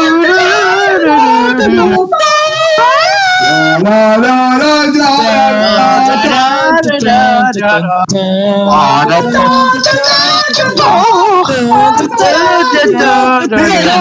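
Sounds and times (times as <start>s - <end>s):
people singing over voice call: 0.0s - 14.0s.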